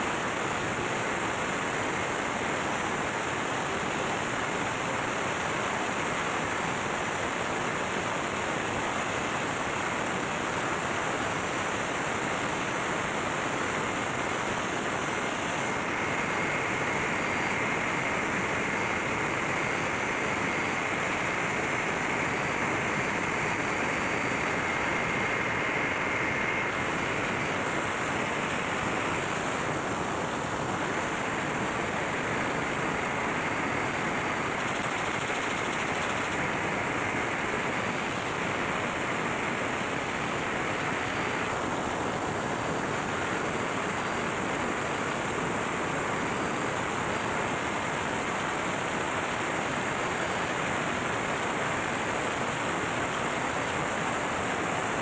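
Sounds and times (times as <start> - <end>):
steady high whine: 0.0 - 55.0.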